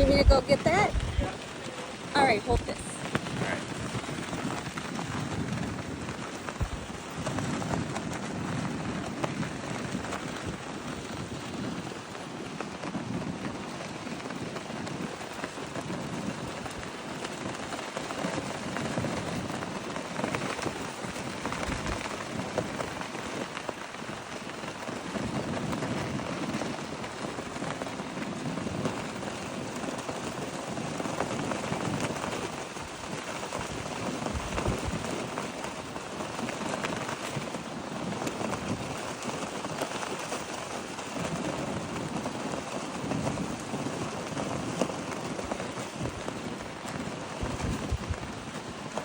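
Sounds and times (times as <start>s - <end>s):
strong wind on microphone: 0.0s - 49.0s.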